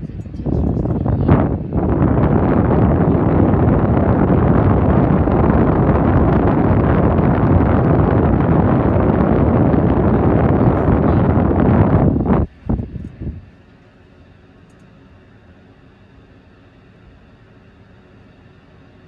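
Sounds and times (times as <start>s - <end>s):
air rushing from blower duct: 0.0s - 19.0s.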